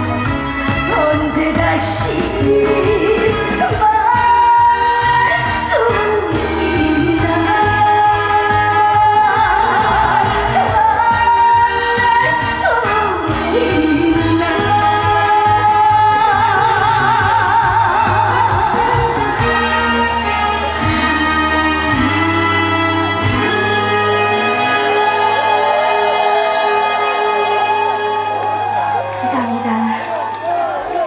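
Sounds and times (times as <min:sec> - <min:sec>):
band accompaniment: 0:00.0 - 0:31.0
woman singing with vibrato: 0:00.8 - 0:28.4.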